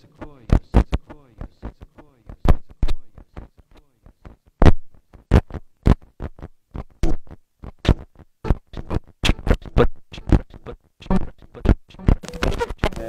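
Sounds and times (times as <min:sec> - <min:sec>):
turntable scratch noise stabs: 0:00.0 - 0:13.0.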